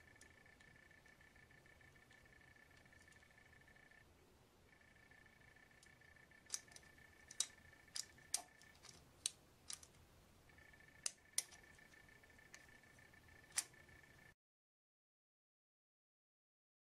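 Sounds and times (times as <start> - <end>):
faint high-pitched whine: 0.0 - 14.4.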